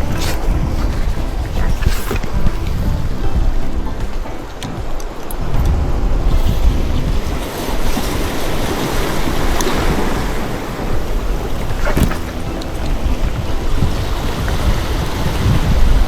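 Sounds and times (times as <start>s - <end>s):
sea waves washing on shore: 0.0s - 16.0s
wind rumbling on microphone: 0.0s - 16.0s.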